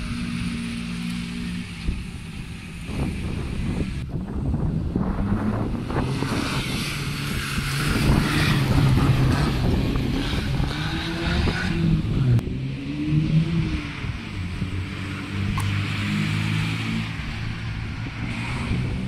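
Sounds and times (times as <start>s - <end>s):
rally car engine pulling hard: 0.0s - 19.0s.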